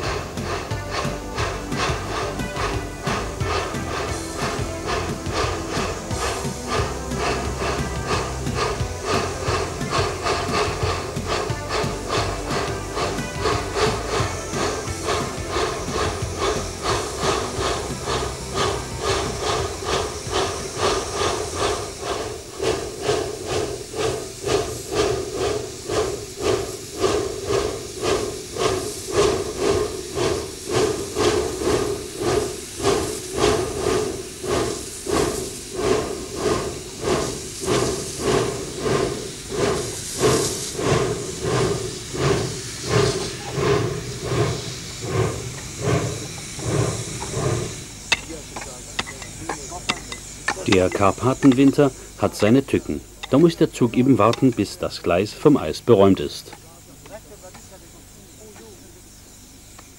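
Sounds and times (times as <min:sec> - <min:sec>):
steam hissing: 0:00.0 - 0:59.9
steam locomotive exhaust chuffs: 0:00.0 - 0:59.9.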